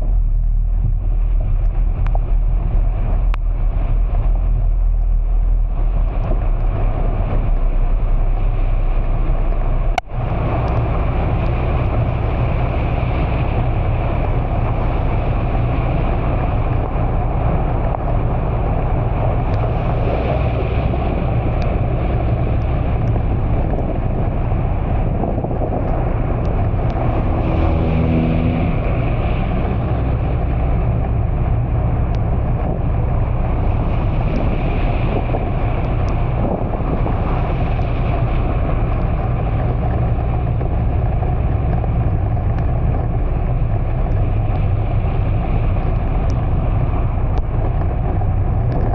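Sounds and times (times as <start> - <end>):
heavy rain: 0.0 - 48.9
vehicle running: 0.0 - 48.9
tyres hissing on wet road: 6.8 - 48.7.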